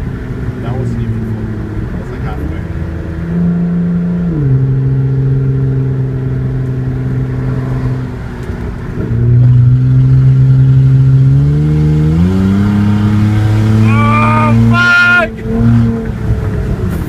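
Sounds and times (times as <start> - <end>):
loud raspy car engine drone: 0.0 - 17.0.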